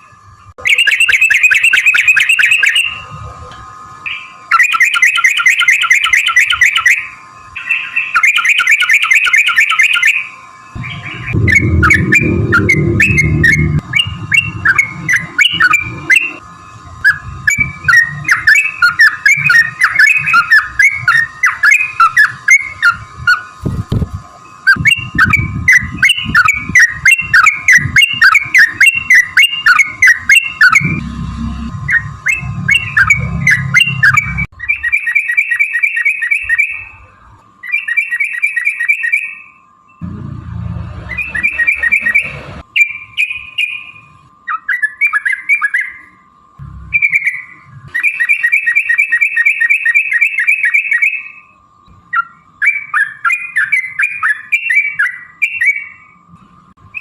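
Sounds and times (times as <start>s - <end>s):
bird singing bubbling chatter: 4.1s - 23.6s, 24.3s - 40.0s, 41.2s - 56.2s.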